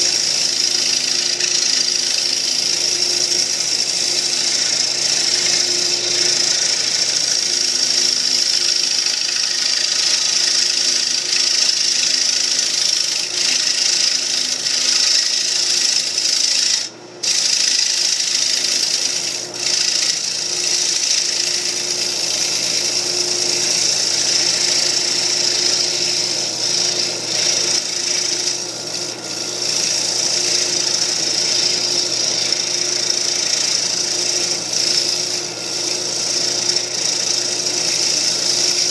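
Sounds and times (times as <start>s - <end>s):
tool hissing on wood: 0.0s - 38.9s
wood lathe humming: 0.0s - 38.9s.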